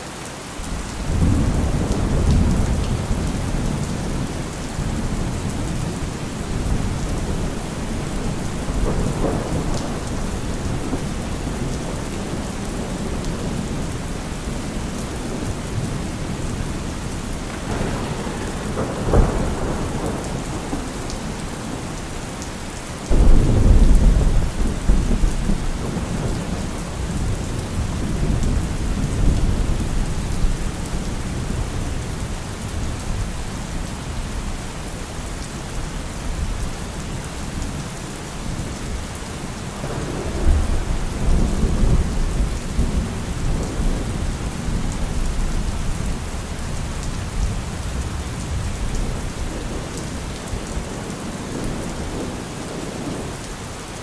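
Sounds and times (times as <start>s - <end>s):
steady rain falling: 0.0s - 54.0s
thunder claps and rumbles: 0.6s - 53.7s.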